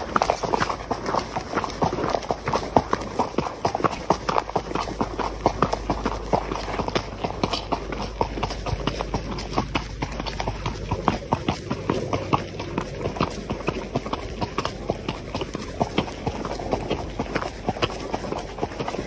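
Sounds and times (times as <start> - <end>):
horse hoofbeats on gravel: 0.0 - 19.0.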